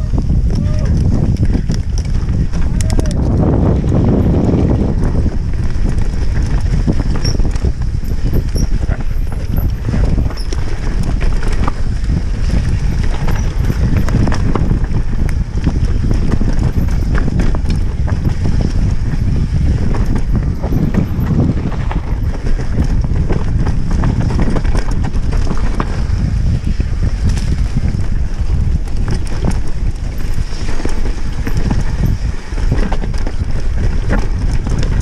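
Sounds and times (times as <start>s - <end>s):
tyres rumbling on dirt: 0.0s - 35.0s
wind on microphone: 0.0s - 35.0s
bike clattering over bumps: 0.2s - 35.0s.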